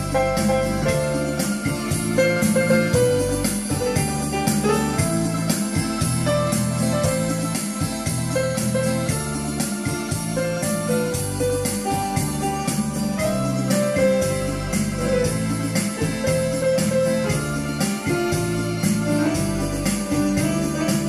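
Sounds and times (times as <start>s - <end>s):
keyboard melody over chords: 0.0s - 21.0s
steady electronic beat: 0.0s - 21.0s.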